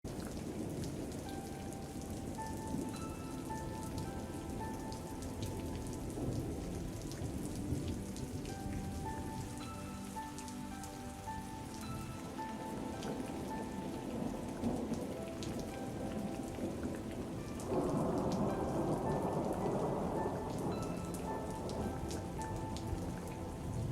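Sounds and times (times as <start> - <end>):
steady rain patter: 0.0 - 23.9
soft slow melody: 0.1 - 23.9.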